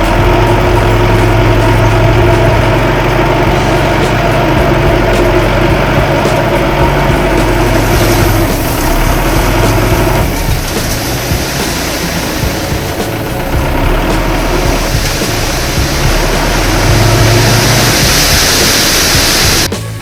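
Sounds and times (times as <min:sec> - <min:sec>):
diesel engine running at low revs: 0:00.0 - 0:20.0.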